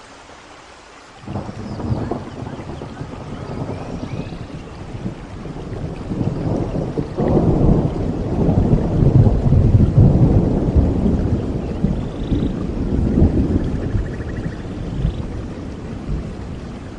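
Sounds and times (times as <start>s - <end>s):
heavy rain falling: 0.0s - 16.9s
rolling thunder: 1.2s - 16.9s.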